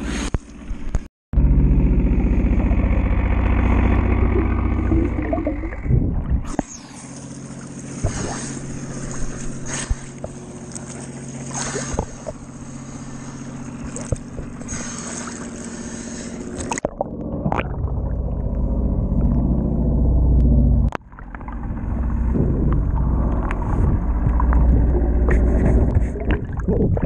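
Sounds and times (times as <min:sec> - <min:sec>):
muffled underwater rumble: 0:00.0 - 0:27.0
steady low hum: 0:00.0 - 0:27.0
water splashing against boat hull: 0:03.6 - 0:19.6, 0:20.9 - 0:27.0.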